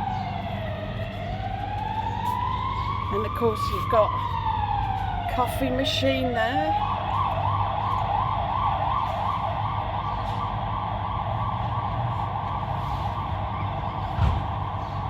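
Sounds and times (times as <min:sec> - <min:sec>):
emergency siren warbling: 0:00.0 - 0:15.0
low traffic hum: 0:00.0 - 0:15.0.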